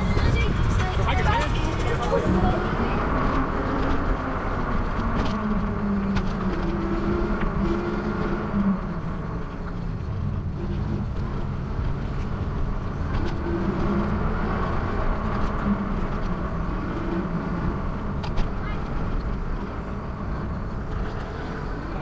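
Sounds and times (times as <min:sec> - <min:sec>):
wind and road rumble: 0:00.0 - 0:22.0.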